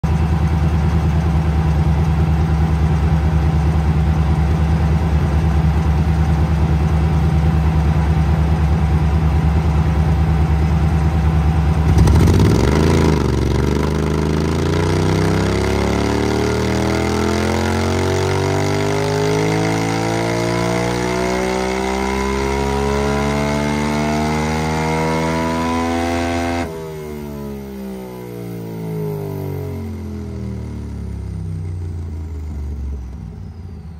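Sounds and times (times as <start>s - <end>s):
motorcycle engine revving on dyno: 0.1s - 33.9s.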